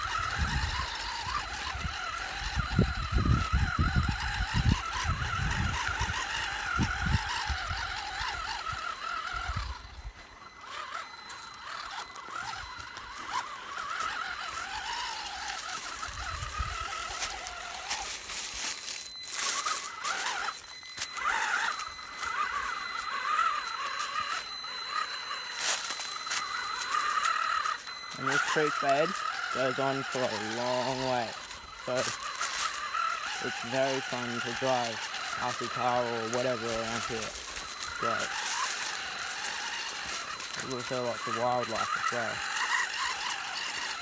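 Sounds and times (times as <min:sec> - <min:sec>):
toy car electric motor whining: 0:00.0 - 0:44.0.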